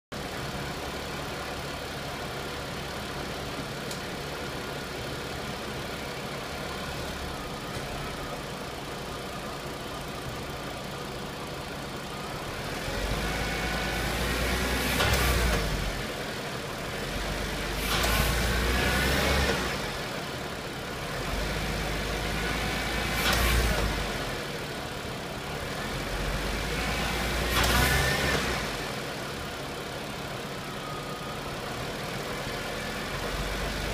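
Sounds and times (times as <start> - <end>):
car engine idling: 0.1 - 27.9, 28.5 - 33.9
deep engine drone with whine: 0.2 - 33.9.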